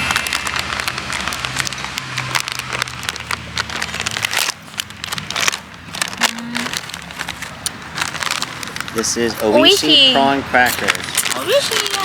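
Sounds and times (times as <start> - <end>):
plastic snack bag crinkling: 0.0 - 12.0.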